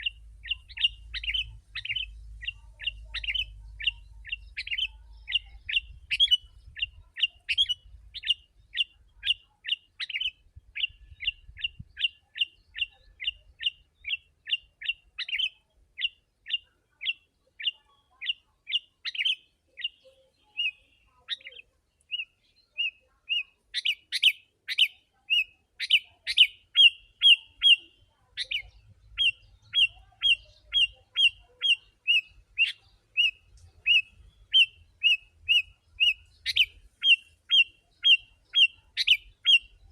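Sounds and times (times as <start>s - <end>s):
bulbul chirping: 0.0s - 39.9s.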